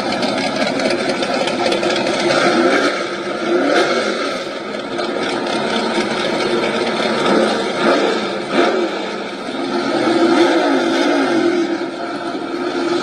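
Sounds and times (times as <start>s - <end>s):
race car engines idling and revving: 0.0s - 13.0s.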